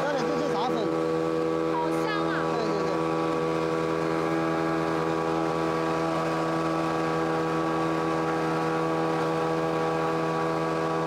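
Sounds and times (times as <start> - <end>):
electric grinding mill droning: 0.0 - 11.0.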